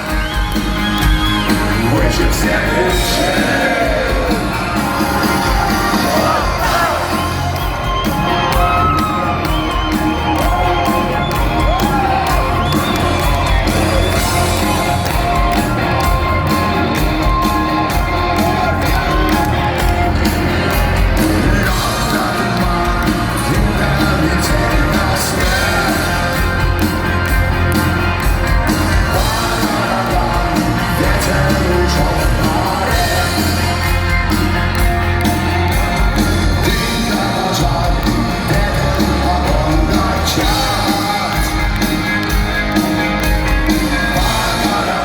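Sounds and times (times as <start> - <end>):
crowd whooping and shouting: 0.0 - 45.0
live rock band: 0.0 - 45.0
person singing: 0.0 - 45.0.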